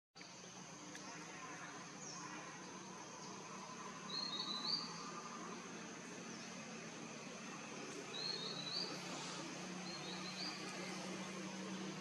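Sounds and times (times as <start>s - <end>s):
birds chirping: 0.2s - 12.0s
high-pitched insect drone: 0.4s - 12.0s.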